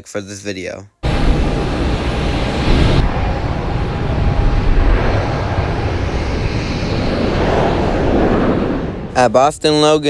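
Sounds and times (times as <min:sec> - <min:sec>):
jet engine roar: 0:01.0 - 0:10.0.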